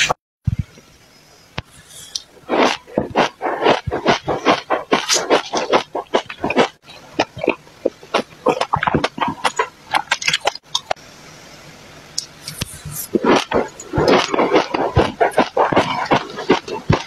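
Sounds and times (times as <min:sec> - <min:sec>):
chewing and crunching seeds: 0:01.8 - 0:11.0, 0:12.2 - 0:17.0.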